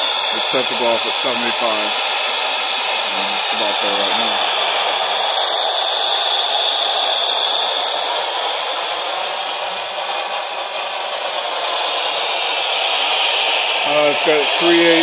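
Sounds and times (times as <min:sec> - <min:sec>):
steam hissing: 0:00.0 - 0:15.0.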